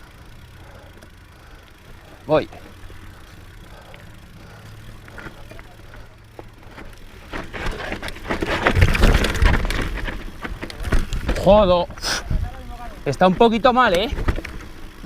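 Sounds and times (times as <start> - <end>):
motorcycle engine: 0.0 - 15.0
tyre noise on trail: 0.0 - 15.0.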